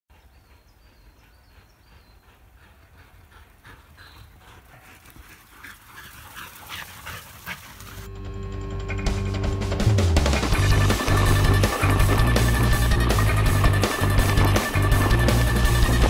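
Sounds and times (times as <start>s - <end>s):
dog panting: 0.1s - 8.1s, 10.4s - 16.0s.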